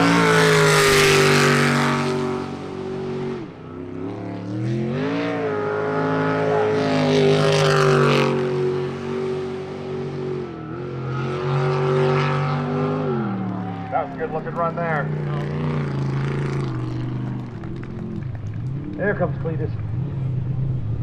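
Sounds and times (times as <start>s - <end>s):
boat engine revving hard: 0.0s - 21.0s.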